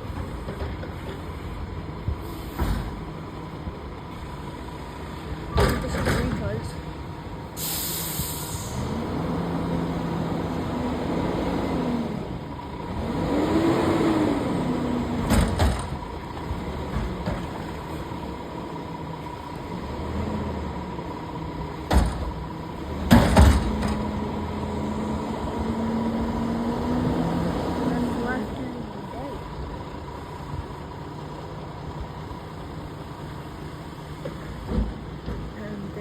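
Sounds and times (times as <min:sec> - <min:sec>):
garbage truck diesel engine revving: 0:00.0 - 0:36.0.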